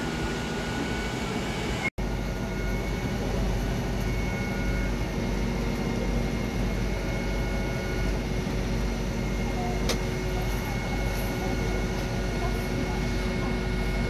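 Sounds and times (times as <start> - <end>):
diesel engine and pump rumbling: 0.0 - 14.0
faint steady whine: 0.0 - 14.0.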